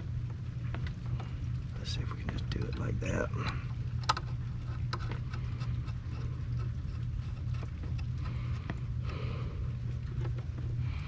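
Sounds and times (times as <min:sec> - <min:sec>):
steady low rumble: 0:00.0 - 0:11.0
cable clicking and rustling: 0:00.2 - 0:09.2, 0:09.8 - 0:10.8.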